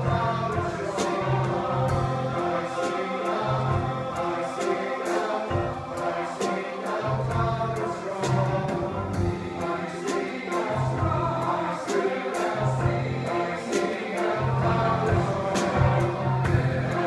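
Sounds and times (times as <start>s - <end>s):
men's chorus singing: 0.0s - 17.0s
piano: 0.0s - 17.0s.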